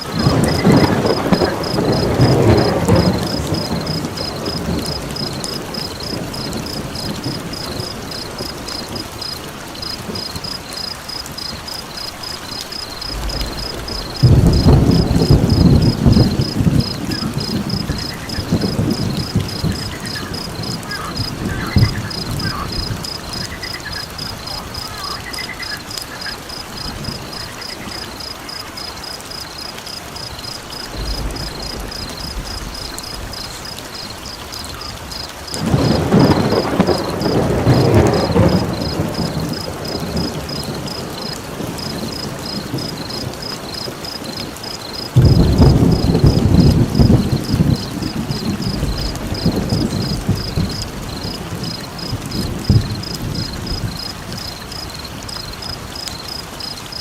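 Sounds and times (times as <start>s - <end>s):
rolling thunder: 0.0s - 28.3s, 30.7s - 55.9s
rain: 0.0s - 57.0s.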